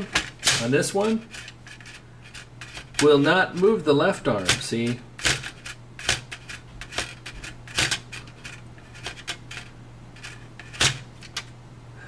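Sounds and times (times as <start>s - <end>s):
plastic and metal clicks and scrapes: 0.0s - 3.7s, 4.3s - 11.5s.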